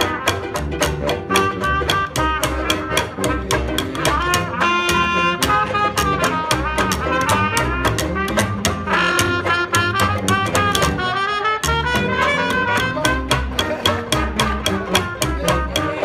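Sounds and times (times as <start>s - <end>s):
guitars strumming: 0.0s - 16.0s
saxophone: 0.0s - 16.0s
trumpets: 0.0s - 16.0s
upright bass: 0.0s - 16.0s.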